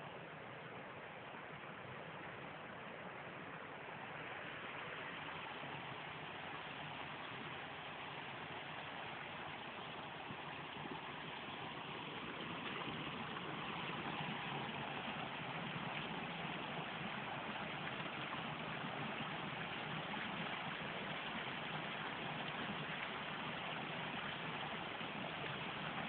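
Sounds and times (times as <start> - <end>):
waterfall rushing water: 2.7 - 26.0.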